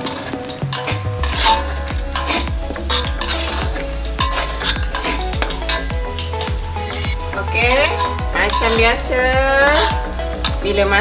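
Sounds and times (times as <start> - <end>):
chili paste sizzling in hot oil: 0.0 - 11.0
metal spatula scraping a wok: 0.0 - 11.0.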